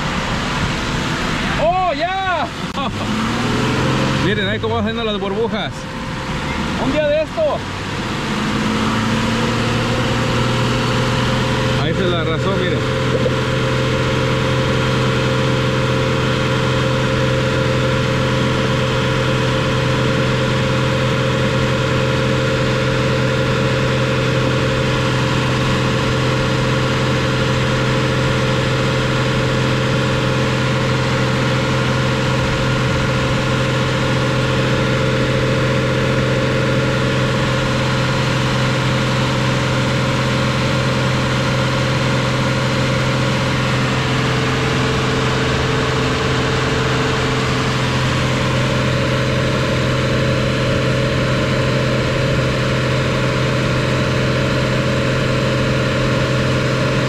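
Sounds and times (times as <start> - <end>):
engine running at fast idle: 0.0 - 57.0.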